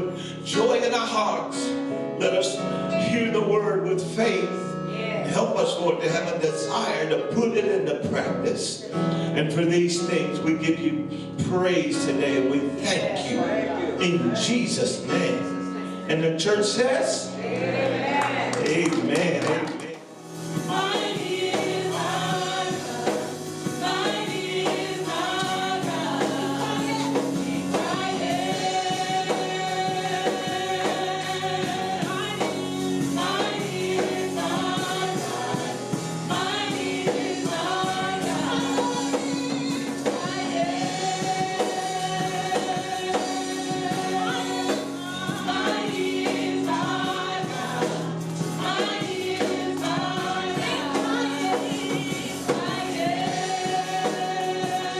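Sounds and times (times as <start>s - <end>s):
choir and congregation singing: 0.0s - 54.9s
keyboard and bass accompaniment: 0.0s - 54.9s.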